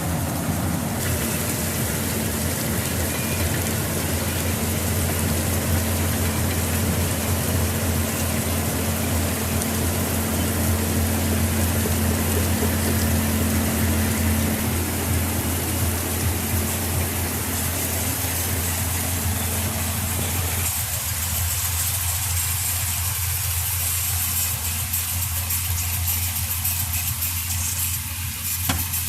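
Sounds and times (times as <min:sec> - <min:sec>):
diesel engine idling: 0:00.0 - 0:29.0
heavy rain hissing: 0:00.0 - 0:29.0.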